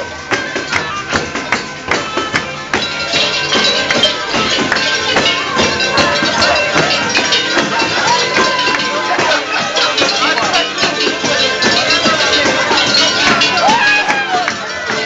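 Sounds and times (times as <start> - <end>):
held melody notes: 0.0 - 15.0
tambourine beating a rhythm: 0.0 - 15.0.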